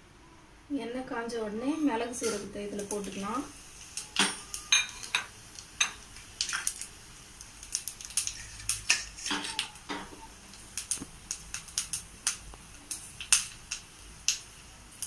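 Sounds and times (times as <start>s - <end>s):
spices crackling in hot oil: 1.1s - 15.0s.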